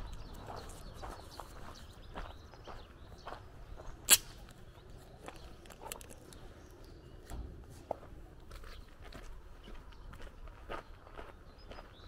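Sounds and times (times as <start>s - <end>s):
footsteps on gravel: 0.0s - 6.0s, 7.7s - 12.0s.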